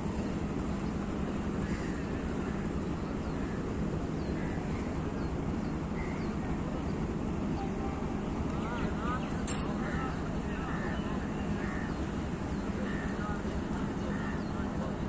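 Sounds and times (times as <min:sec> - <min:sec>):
faint continuous hum: 0:00.0 - 0:15.0
outdoor rumble and hiss: 0:00.0 - 0:15.0.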